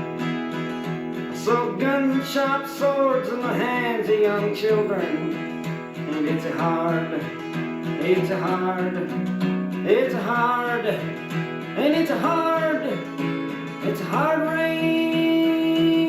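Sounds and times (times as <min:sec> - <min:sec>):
person singing: 0:00.0 - 0:16.0
strummed acoustic guitar: 0:00.0 - 0:16.0.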